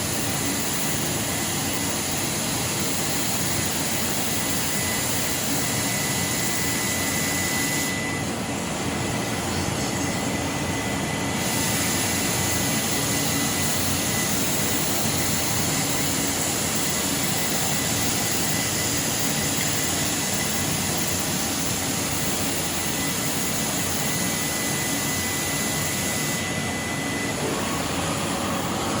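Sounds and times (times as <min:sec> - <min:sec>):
high steady whine: 0:00.0 - 0:29.0.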